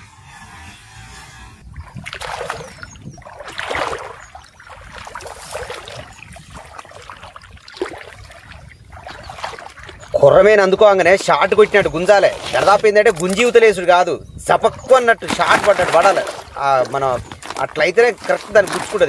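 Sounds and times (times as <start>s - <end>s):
shallow water splashing: 1.6s - 19.0s.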